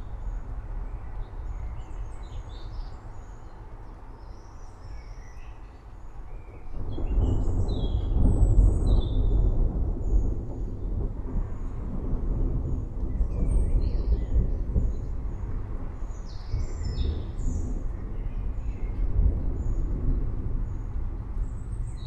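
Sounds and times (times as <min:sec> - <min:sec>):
forest birds chirping: 0:00.0 - 0:11.8, 0:12.6 - 0:22.0
steady low rumble: 0:00.0 - 0:22.0.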